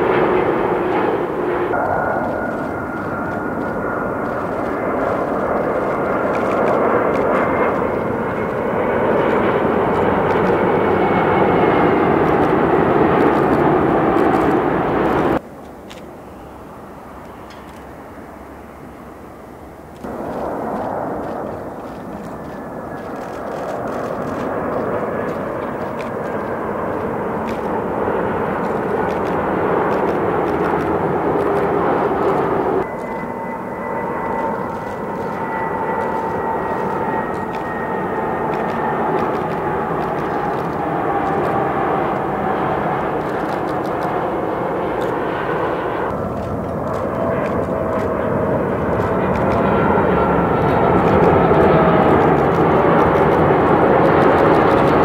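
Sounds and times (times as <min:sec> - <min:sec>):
airliner engine whine: 0:00.0 - 0:55.0
jet engine rush: 0:00.0 - 0:55.0.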